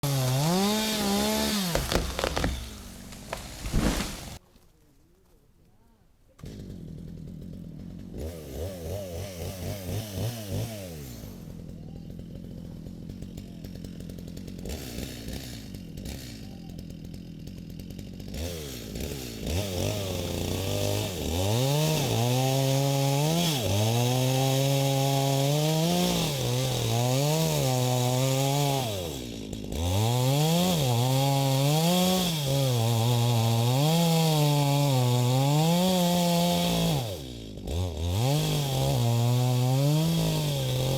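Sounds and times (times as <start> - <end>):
chainsaw cutting wood: 0.0 - 4.4, 6.4 - 40.9.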